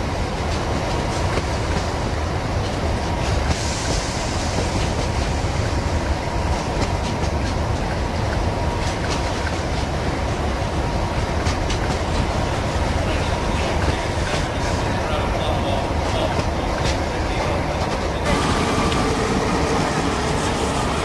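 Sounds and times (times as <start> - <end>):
clickety-clack over rail joints: 0.0 - 21.0
train wheels rumbling on rails: 0.0 - 21.0.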